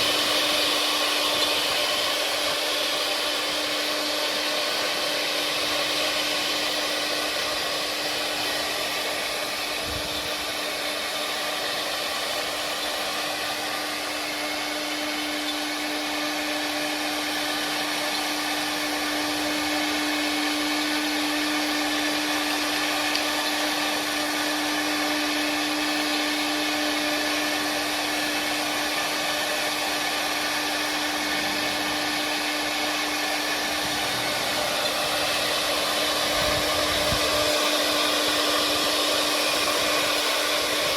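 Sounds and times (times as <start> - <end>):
carving machine spindles whining: 0.0 - 40.9.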